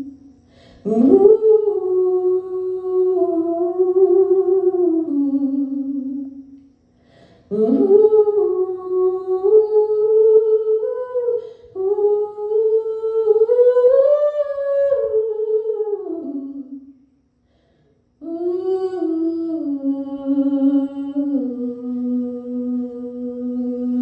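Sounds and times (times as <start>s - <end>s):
woman humming slow melody: 0.0s - 17.0s, 18.2s - 24.0s.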